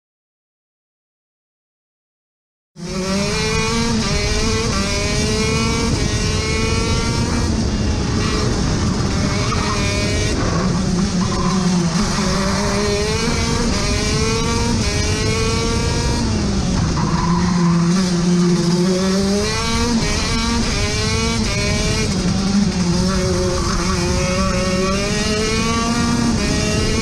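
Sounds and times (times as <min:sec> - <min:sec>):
kart engine at racing speed: 0:02.8 - 0:27.0.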